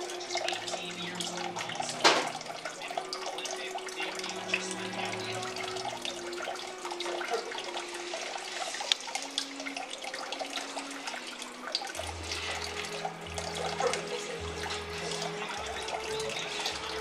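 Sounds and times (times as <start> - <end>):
rushing trickling water: 0.0 - 17.0
soft background music: 0.0 - 17.0.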